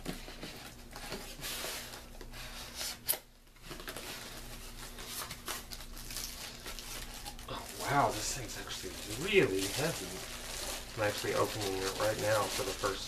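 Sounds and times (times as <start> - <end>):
box packaging rustling: 0.0 - 13.0.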